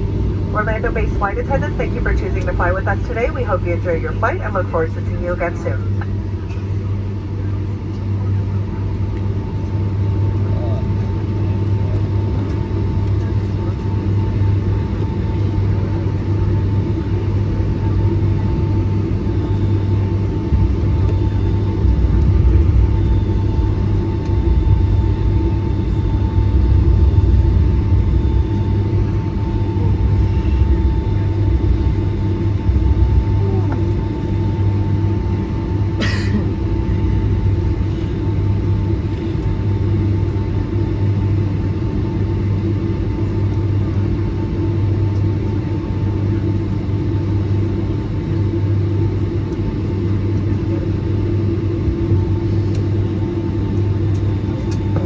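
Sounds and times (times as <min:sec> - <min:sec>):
aircraft cabin rumble and hum: 0:00.0 - 0:55.0.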